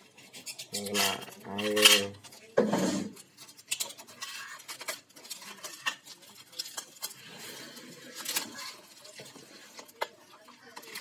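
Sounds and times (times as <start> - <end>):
clatter of small parts and tools: 0.1 - 11.0.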